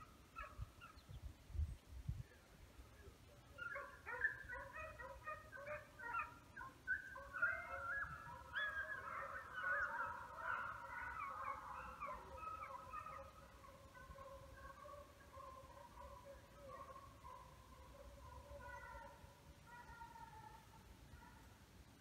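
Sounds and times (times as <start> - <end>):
hounds baying: 3.4 - 21.4.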